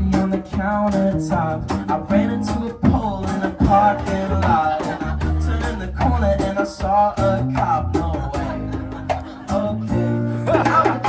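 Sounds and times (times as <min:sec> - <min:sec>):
bass and drums: 0:00.0 - 0:11.0
person singing: 0:00.0 - 0:11.0
strummed acoustic guitar: 0:00.0 - 0:11.0.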